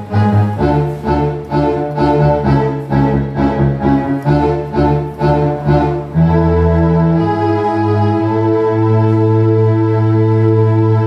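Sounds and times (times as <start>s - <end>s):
keyboard string chords: 0.0s - 11.0s.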